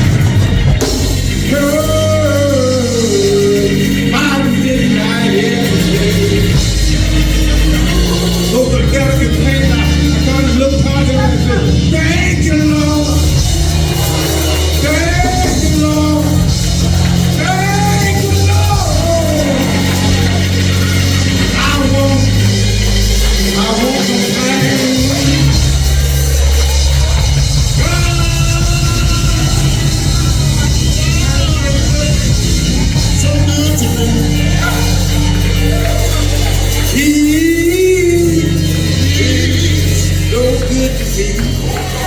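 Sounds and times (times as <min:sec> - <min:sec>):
church band music: 0:00.0 - 0:42.0.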